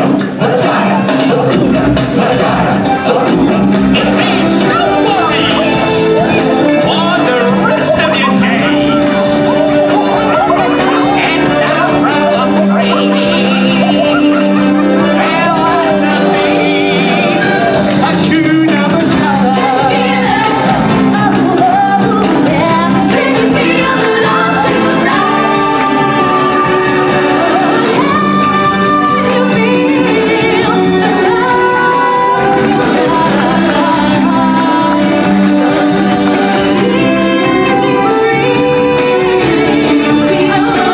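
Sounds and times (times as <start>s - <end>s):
stage-show music with singing voices: 0.0s - 40.9s.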